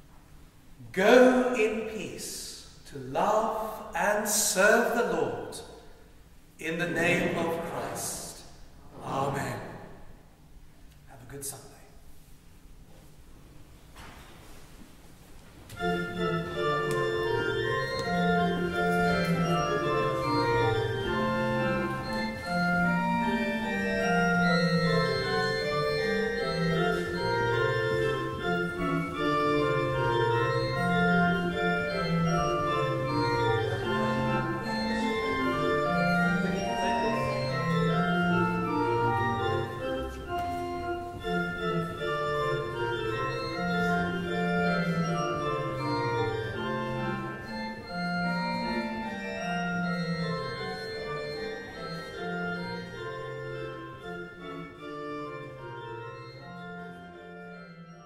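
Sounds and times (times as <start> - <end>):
church organ playing: 0.8 - 10.1, 15.7 - 58.0.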